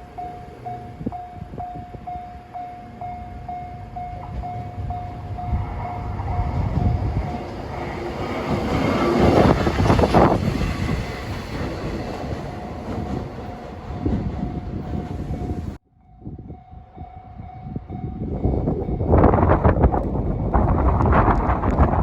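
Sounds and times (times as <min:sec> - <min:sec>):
locomotive engine and wheels: 0:00.0 - 0:22.0.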